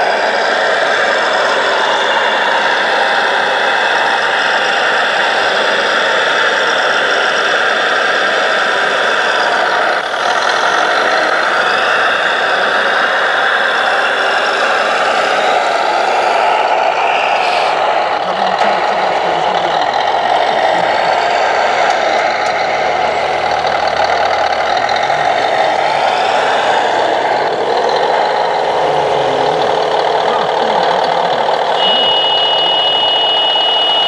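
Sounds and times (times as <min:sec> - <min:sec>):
diesel engine sound through small speaker: 0:00.0 - 0:34.0.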